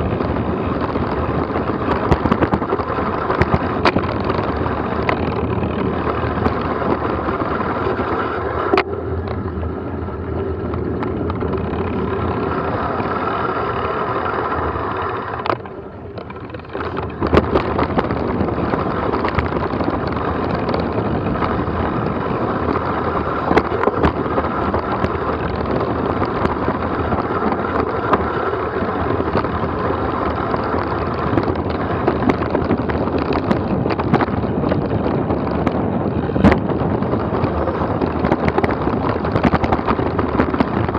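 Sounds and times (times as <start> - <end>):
gear rattling: 0.0 - 40.9
wind buffeting microphone: 0.0 - 40.9.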